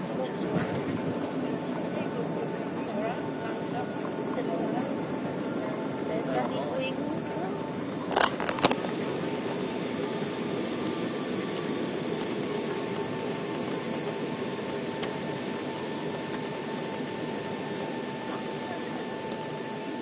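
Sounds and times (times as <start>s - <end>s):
jet engines rushing in cabin: 0.0s - 20.0s.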